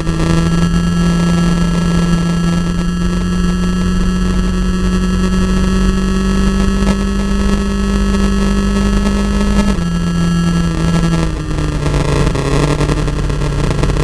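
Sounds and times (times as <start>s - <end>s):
engine at high revs: 0.0s - 14.0s
wind and road noise: 0.0s - 14.0s.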